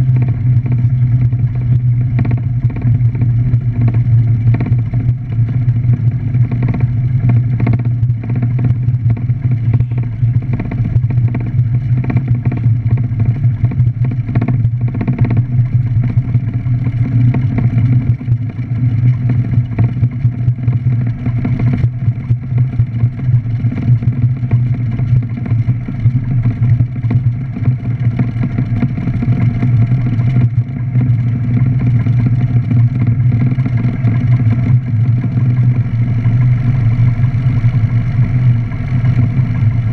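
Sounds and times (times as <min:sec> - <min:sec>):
light aircraft piston engine: 0:00.0 - 0:39.9.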